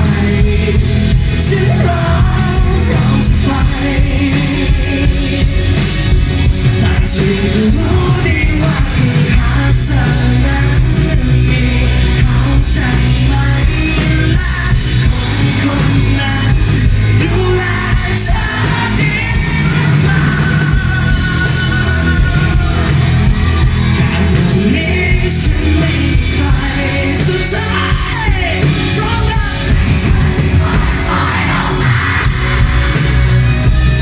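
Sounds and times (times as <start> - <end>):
man singing: 0.0 - 23.2, 23.9 - 33.1
live pop-rock band playing: 0.0 - 34.0.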